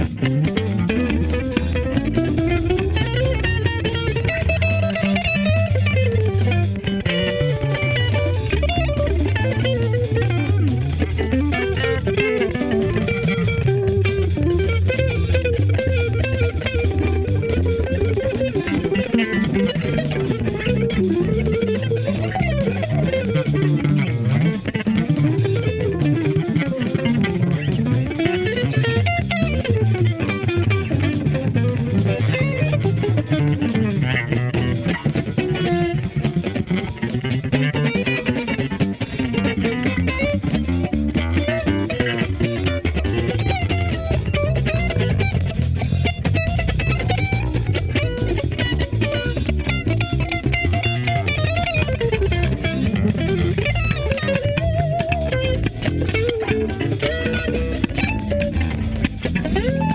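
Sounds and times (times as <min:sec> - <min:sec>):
bass guitar line: 0:00.0 - 0:59.9
drum beat: 0:00.0 - 0:59.9
electric guitar melodic lines: 0:00.0 - 0:59.9.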